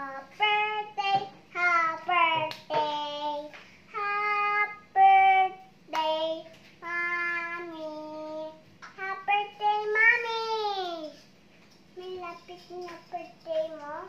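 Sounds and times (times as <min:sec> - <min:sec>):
girl singing: 0:00.0 - 0:11.2, 0:12.0 - 0:14.0.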